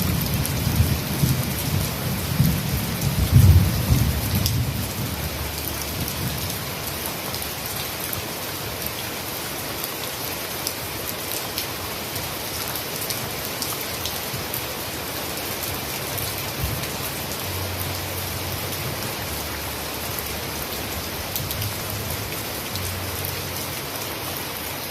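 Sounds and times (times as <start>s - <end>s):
heavy rain falling: 0.0s - 24.9s.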